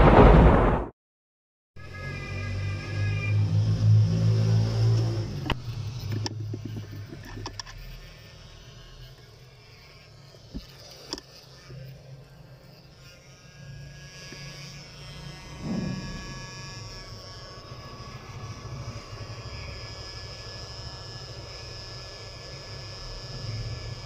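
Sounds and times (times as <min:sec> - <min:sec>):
small electric motor humming: 0:01.8 - 0:24.0.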